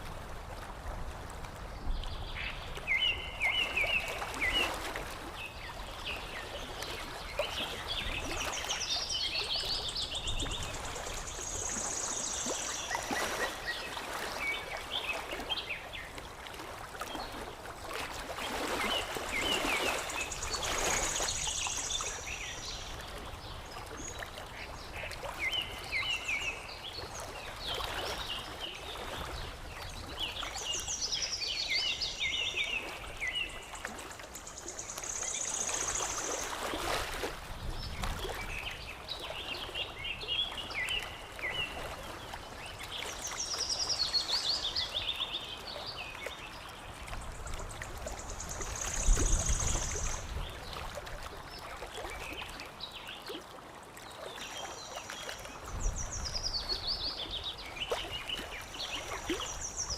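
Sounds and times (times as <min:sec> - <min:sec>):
water lapping and trickling: 0:00.0 - 0:59.9.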